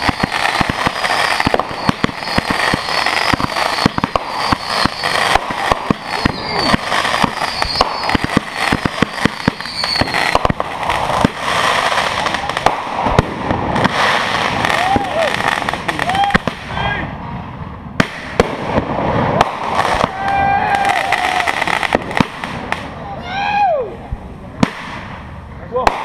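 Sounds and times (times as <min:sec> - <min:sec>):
fireworks bangs and crackle: 0:00.0 - 0:23.4, 0:24.0 - 0:26.0
high whistling fireworks: 0:00.0 - 0:26.0.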